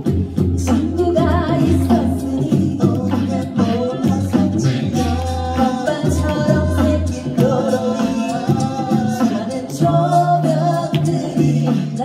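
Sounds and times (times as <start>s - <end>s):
a cappella group singing in harmony: 0.0s - 12.0s
deep sung bass line: 0.0s - 12.0s.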